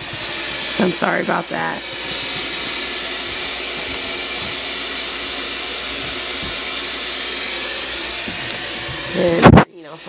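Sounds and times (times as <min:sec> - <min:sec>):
steady hiss: 0:00.0 - 0:09.6.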